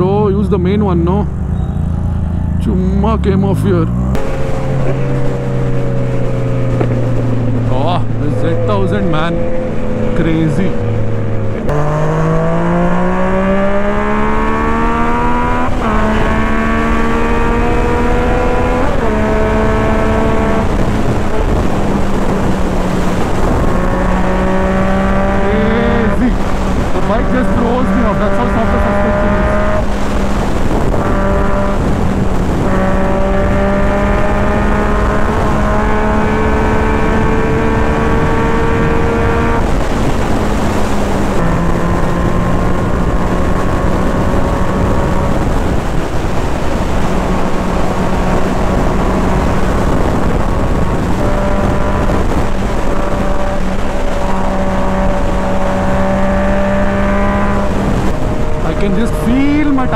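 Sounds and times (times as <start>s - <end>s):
motorcycle engine at high revs: 0.0s - 59.9s
wind rushing over microphone: 0.0s - 59.9s.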